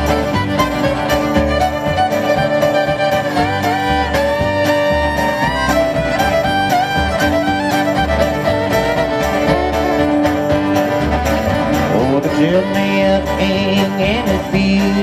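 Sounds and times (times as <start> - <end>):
fiddle melody: 0.0 - 15.0
strummed acoustic guitar: 0.0 - 15.0.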